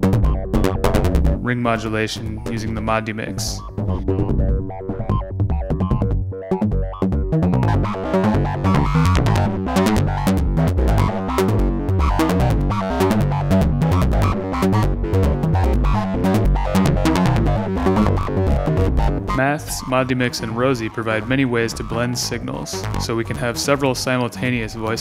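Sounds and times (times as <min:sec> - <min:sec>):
modular synthesizer sequenced notes: 0:00.0 - 0:25.0.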